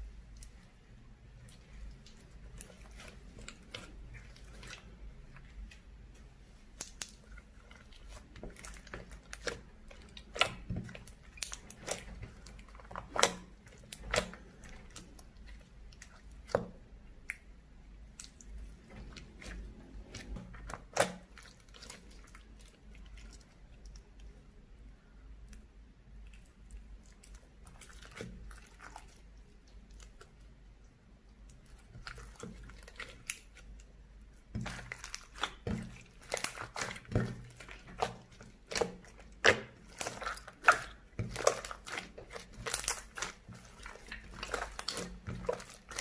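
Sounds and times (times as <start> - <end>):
slime squished by hand: 1.4 - 24.1, 26.3 - 30.4, 31.5 - 33.8, 34.4 - 46.0.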